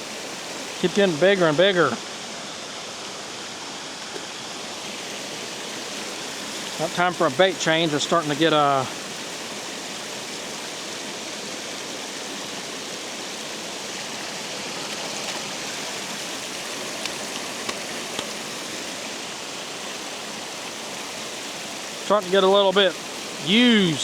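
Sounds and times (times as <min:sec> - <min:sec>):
water rushing over spillway: 0:00.0 - 0:24.0.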